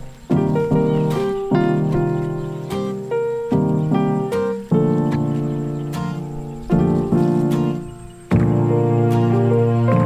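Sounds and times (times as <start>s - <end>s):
slow plucked instrumental melody: 0.0s - 10.0s.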